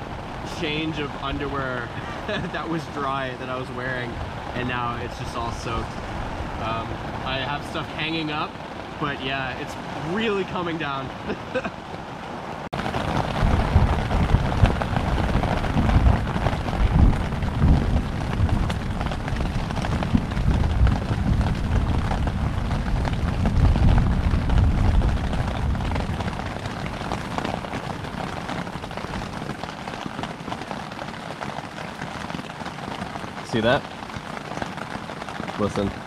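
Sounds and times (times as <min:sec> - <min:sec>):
thunder rumbling: 0:00.0 - 0:11.7, 0:12.7 - 0:36.0
rain pouring: 0:00.0 - 0:36.0.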